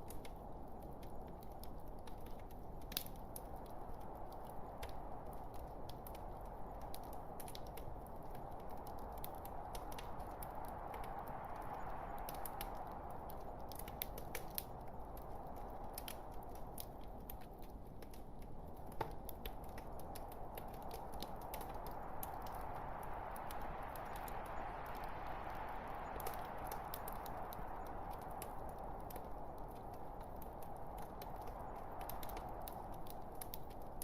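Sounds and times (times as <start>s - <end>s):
hissing flames: 0.0s - 34.0s
logs crackling in a fireplace: 0.0s - 34.0s.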